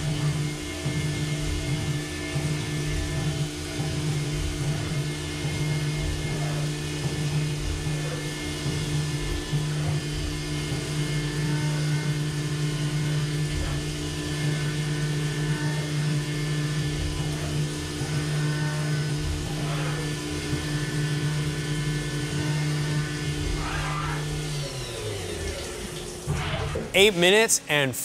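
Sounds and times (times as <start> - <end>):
milling machine spindle hum: 0.0 - 26.3.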